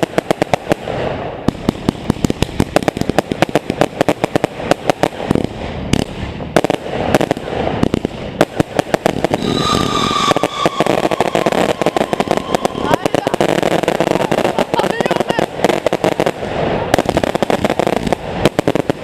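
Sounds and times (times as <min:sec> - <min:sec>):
firecrackers banging: 0:00.0 - 0:19.0.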